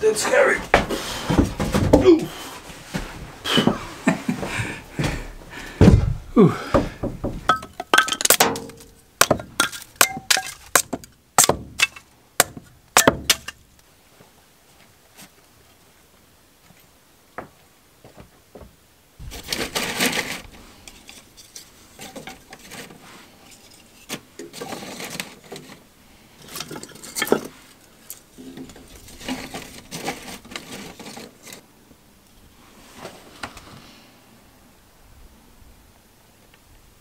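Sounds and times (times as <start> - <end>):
wood clattering and rustling: 0.3 - 15.4, 16.6 - 31.6.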